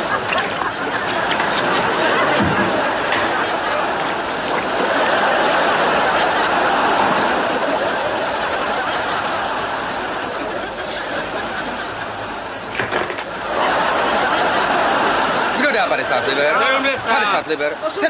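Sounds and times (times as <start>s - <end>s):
studio audience laughing: 0.0s - 18.0s.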